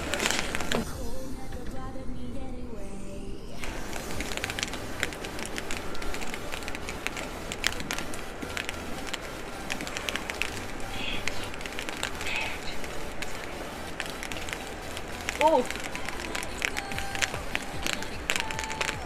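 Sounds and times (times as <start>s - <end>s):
snow ticking on umbrella: 0.0s - 0.9s, 3.6s - 19.0s.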